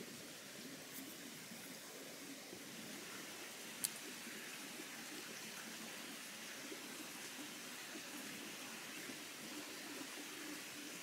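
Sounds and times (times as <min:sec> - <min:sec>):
faint rushing water: 0:00.0 - 0:11.0.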